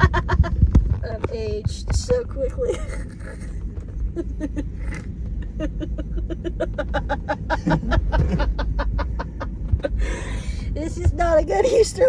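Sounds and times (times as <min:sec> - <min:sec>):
car rumbling in motion: 0:00.0 - 0:12.0.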